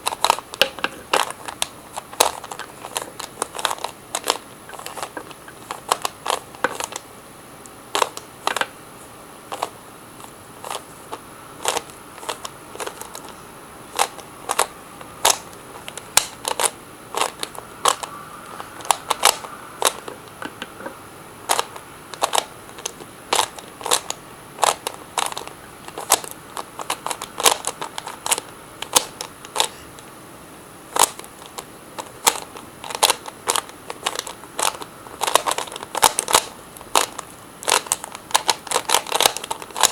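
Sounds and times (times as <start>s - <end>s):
puzzle cube twisting clicks: 0.0s - 7.0s, 7.9s - 8.7s, 9.5s - 20.9s, 21.5s - 30.1s, 30.9s - 39.9s.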